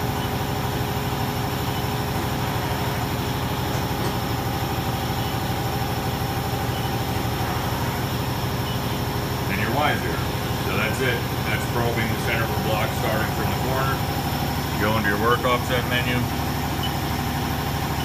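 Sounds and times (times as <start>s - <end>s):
air compressor hum: 0.0s - 18.0s.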